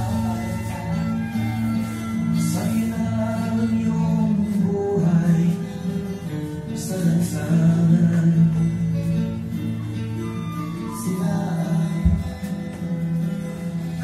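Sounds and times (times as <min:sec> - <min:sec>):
held instrumental notes: 0:00.0 - 0:14.0
person singing: 0:00.0 - 0:14.0.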